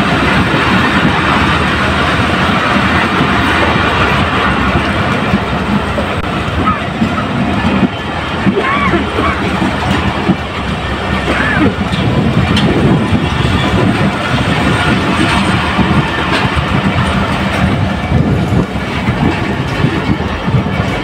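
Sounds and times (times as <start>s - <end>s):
train wheels clattering on rails: 0.0s - 21.0s.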